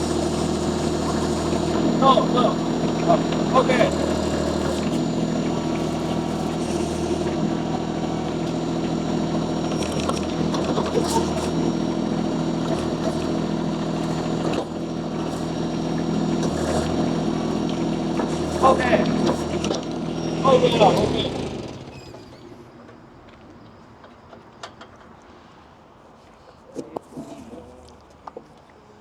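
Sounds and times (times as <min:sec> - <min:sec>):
loader engine running: 0:00.0 - 0:23.4.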